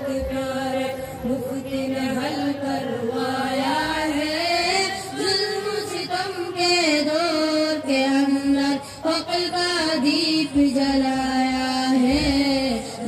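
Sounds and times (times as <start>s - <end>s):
boys singing devotional song: 0.0s - 13.0s.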